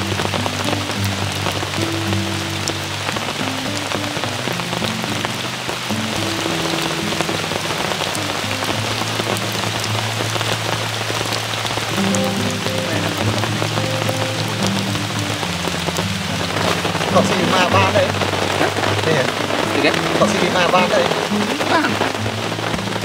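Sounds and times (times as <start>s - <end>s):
soft background music: 0.0s - 23.0s
steady rain falling: 0.0s - 23.0s.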